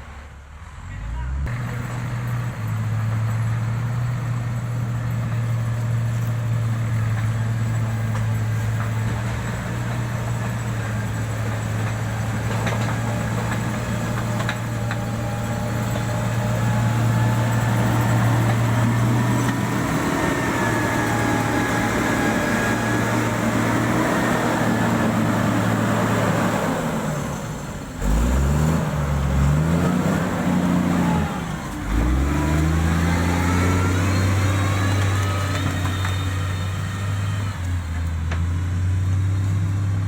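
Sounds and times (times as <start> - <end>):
diesel engine humming: 0.0 - 40.0.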